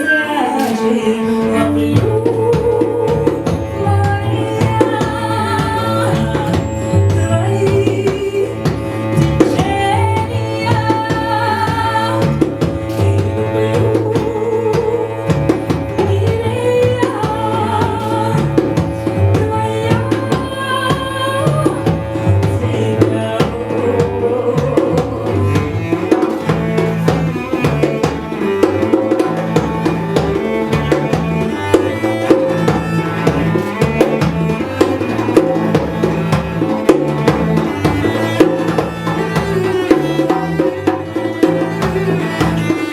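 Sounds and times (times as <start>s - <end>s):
cellos playing: 0.0s - 42.9s
woman singing: 0.0s - 42.9s
djembe fast pattern: 1.9s - 42.9s.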